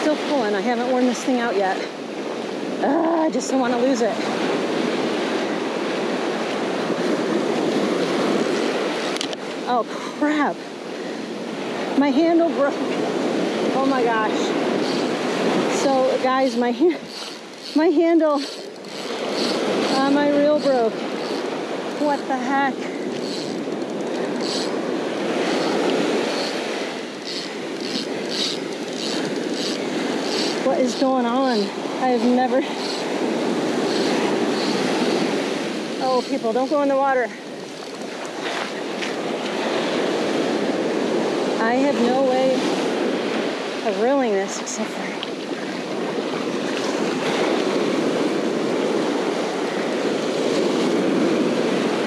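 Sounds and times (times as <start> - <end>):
ocean waves breaking: 0.0 - 52.0
surf washing up beach: 0.0 - 52.0
wind on microphone: 0.0 - 52.0.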